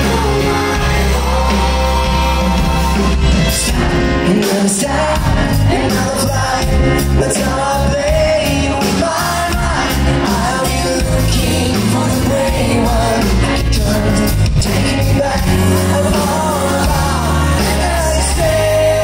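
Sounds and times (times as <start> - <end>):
drums: 0.0 - 19.0
man singing: 0.0 - 19.0.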